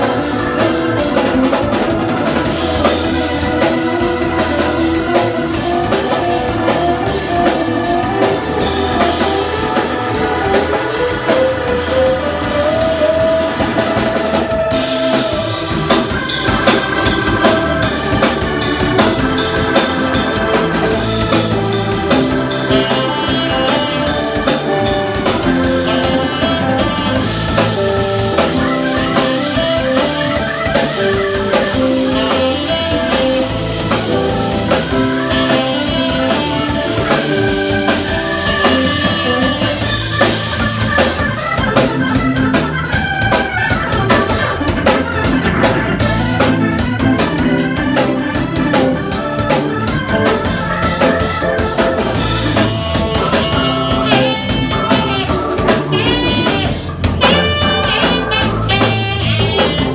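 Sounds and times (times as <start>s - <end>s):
live instrumental band: 0.0s - 59.9s
organ playing: 0.0s - 59.9s.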